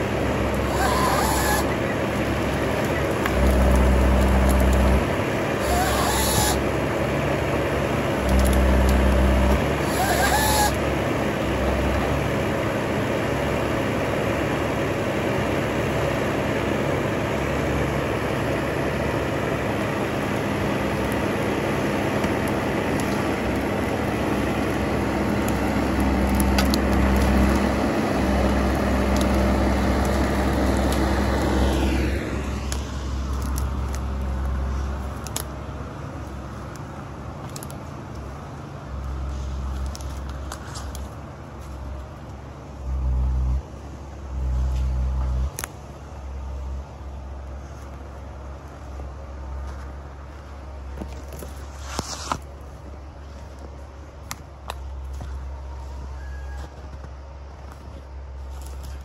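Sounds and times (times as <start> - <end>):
harvester engine and hydraulics: 0.0 - 59.0.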